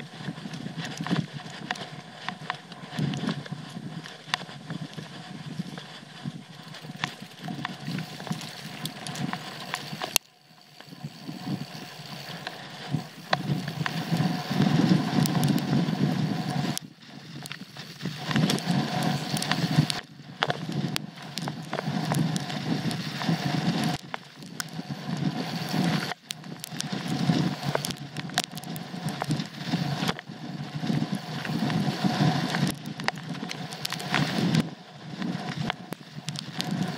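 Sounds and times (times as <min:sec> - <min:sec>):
bike rattling clicks and knocks: 0:00.0 - 0:36.9
bike tyres rumbling over dirt: 0:00.0 - 0:36.9.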